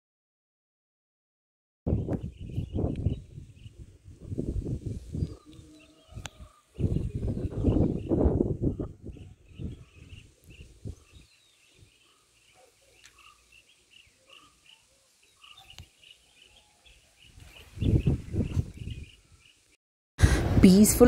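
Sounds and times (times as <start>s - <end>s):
birds chirping: 1.9s - 19.8s.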